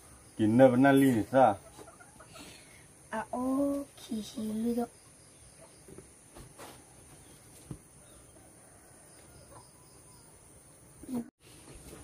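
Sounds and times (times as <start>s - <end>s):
insects chirring: 0.0s - 11.2s.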